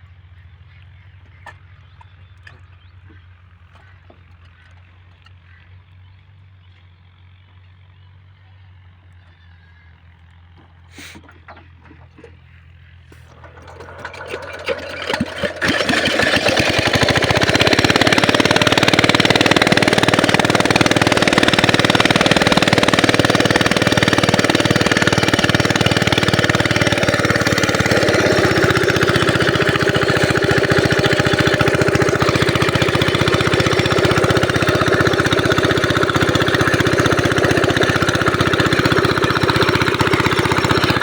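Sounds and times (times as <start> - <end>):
diesel pump engine knocking: 0.2 - 7.7, 9.0 - 41.0.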